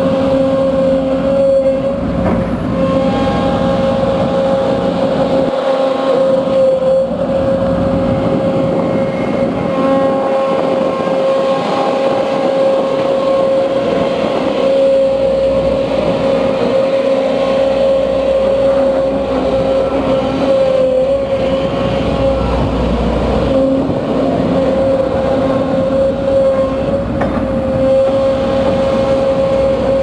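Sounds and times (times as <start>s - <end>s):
excavator engine running: 0.0s - 30.0s
hydraulic pump whine: 0.0s - 30.0s.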